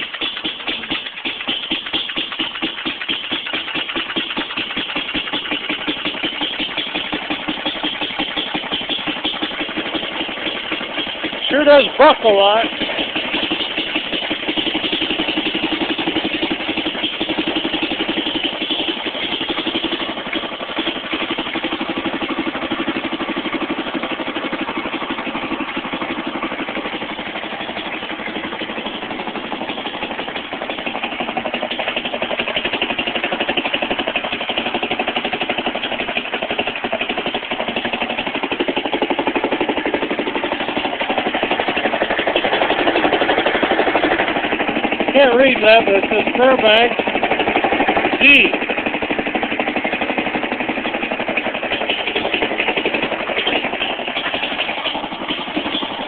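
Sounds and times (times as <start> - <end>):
hit-and-miss engine running: 0.0 - 56.0.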